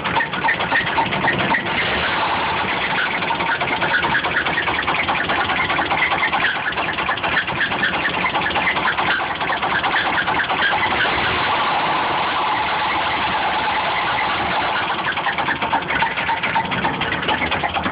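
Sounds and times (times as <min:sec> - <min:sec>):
engine running unevenly: 0:00.0 - 0:17.9.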